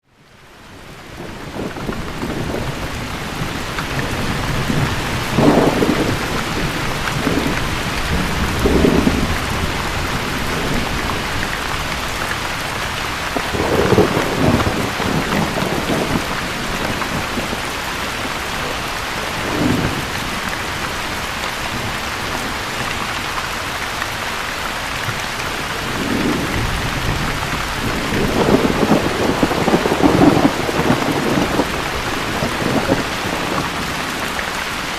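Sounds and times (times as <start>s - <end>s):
heavy rain: 0.0s - 34.9s
thunder rumbling: 1.2s - 23.0s, 25.1s - 34.9s.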